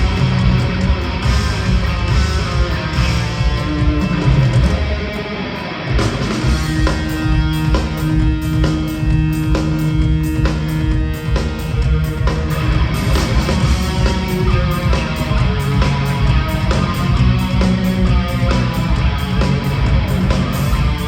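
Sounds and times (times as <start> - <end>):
instrumental rock band playing live: 0.0 - 21.0.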